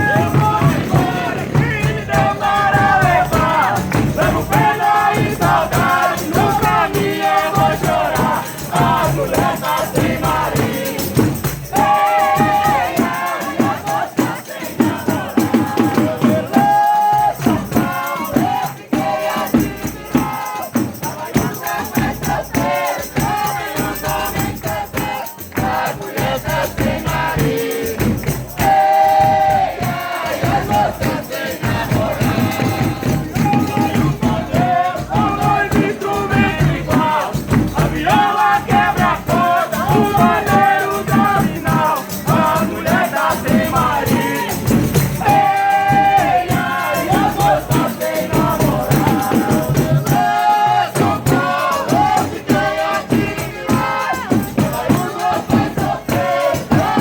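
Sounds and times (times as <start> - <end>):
ensemble singing in several voices: 0.0 - 57.0
hand percussion: 0.0 - 57.0.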